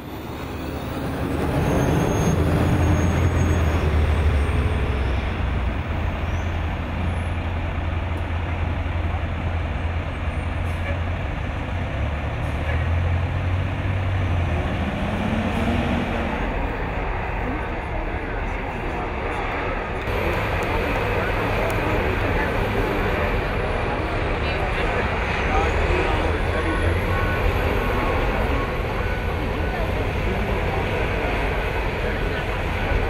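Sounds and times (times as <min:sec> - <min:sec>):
heavy diesel engines rumbling: 0:00.0 - 0:33.0.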